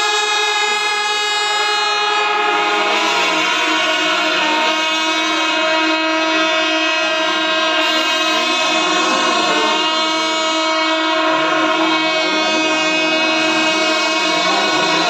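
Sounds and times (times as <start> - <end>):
wind instruments: 0.0 - 15.0.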